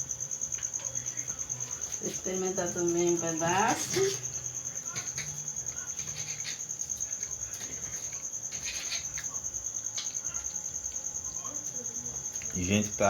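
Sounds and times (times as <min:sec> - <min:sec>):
cricket chirping trill: 0:00.0 - 0:13.0.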